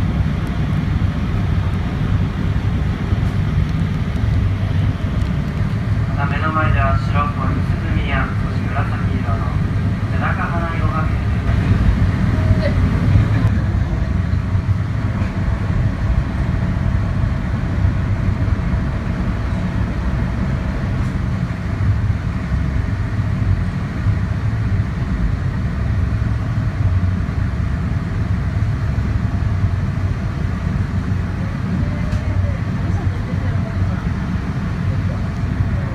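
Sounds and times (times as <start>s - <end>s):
boat engine droning: 0.0s - 35.9s.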